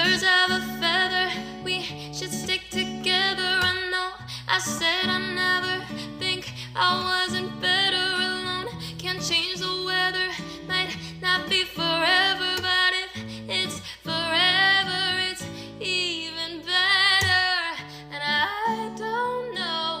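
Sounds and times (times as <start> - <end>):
acoustic guitar: 0.0 - 20.0
woman singing: 0.0 - 20.0.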